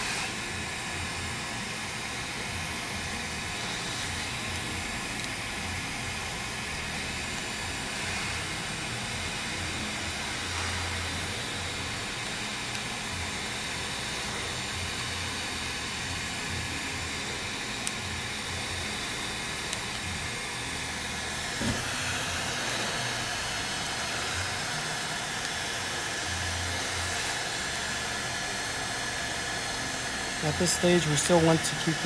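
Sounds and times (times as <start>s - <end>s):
heat gun hissing: 0.0s - 32.0s.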